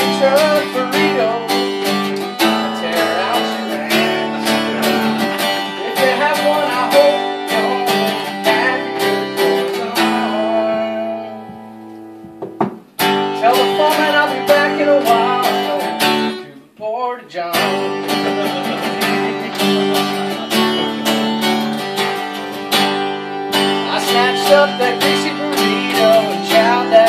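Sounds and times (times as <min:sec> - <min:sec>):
man singing: 0:00.0 - 0:11.7, 0:13.2 - 0:22.4, 0:23.6 - 0:27.0
acoustic guitar strumming: 0:00.0 - 0:27.0.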